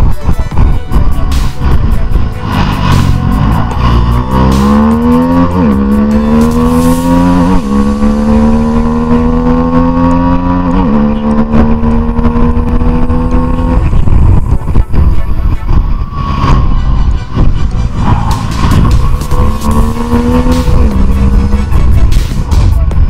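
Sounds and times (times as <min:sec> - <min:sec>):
motorcycle engine accelerating: 0:00.0 - 0:23.0
rushing noise: 0:00.0 - 0:23.0.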